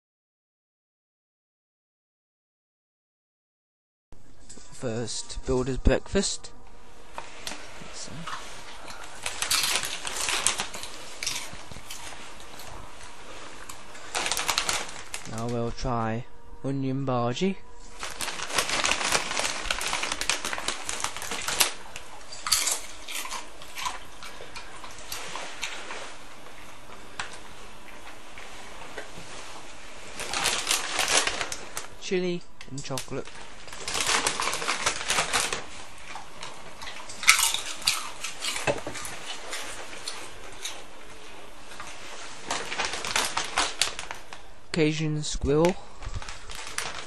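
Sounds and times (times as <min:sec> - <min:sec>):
dog crunching crisps: 0:07.3 - 0:16.0, 0:17.8 - 0:47.0.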